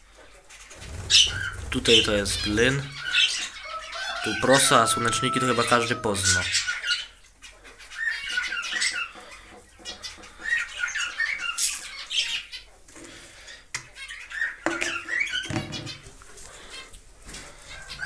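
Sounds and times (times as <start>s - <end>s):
parrots chattering and squawking: 0.0s - 18.0s.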